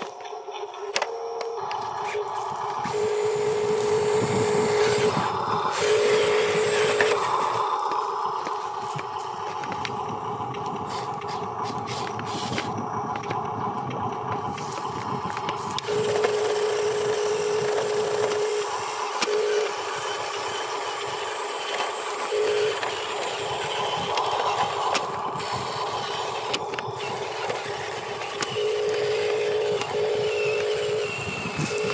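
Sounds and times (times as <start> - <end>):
electric motor and gears whining: 0.0 - 31.9.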